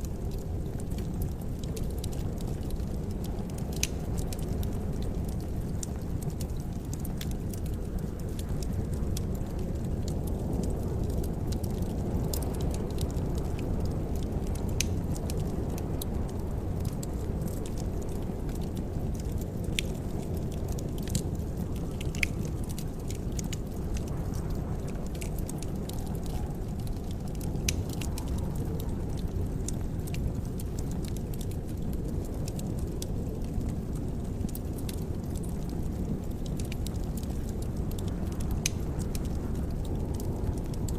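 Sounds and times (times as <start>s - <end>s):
fireplace fire crackling: 0.0s - 40.9s
steady low rumble: 0.0s - 40.9s.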